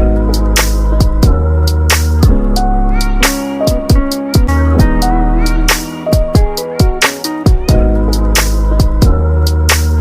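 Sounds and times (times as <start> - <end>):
upbeat instrumental with drum beat: 0.0 - 10.0.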